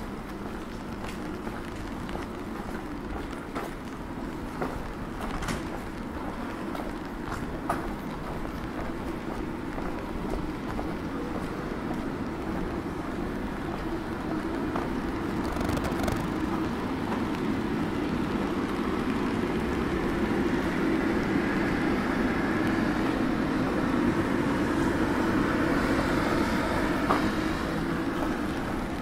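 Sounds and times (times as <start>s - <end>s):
distant traffic hum: 0.0s - 29.0s.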